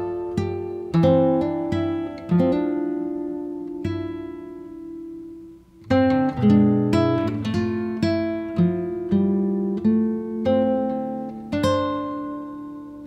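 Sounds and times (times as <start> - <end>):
acoustic guitar plucking: 0.0 - 13.0.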